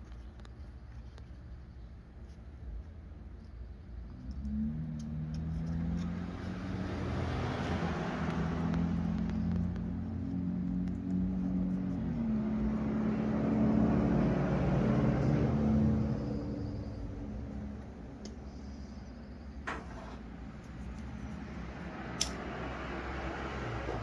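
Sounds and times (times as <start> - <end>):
vehicle engine running: 4.1 - 24.0.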